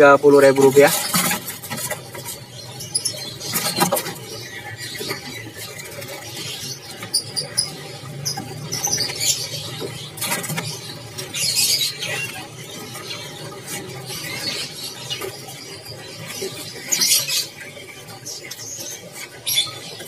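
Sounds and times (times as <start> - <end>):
small birds chirping and squeaking: 0.0 - 20.0.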